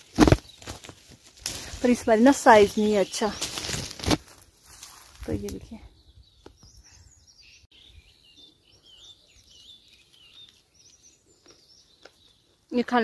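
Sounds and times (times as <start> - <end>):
small birds chirping and warbling: 0.2 - 13.0.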